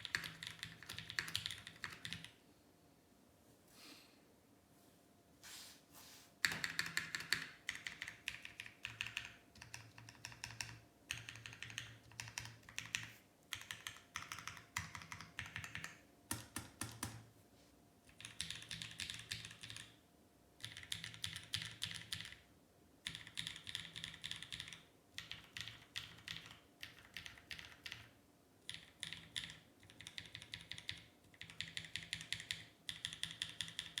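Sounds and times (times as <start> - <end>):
mechanical keyboard typing: 0.0 - 2.4, 6.4 - 17.2, 18.1 - 20.0, 20.6 - 22.4, 23.0 - 34.0.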